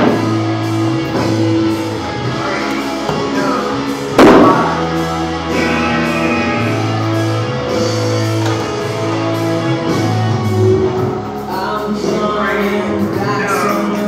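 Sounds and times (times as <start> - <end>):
background music with bass notes: 0.0 - 14.0.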